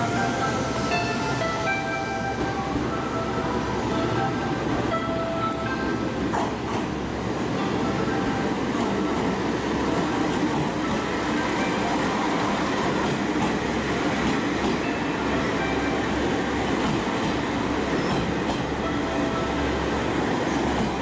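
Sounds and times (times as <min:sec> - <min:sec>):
diesel railcar running: 0:00.0 - 0:21.0.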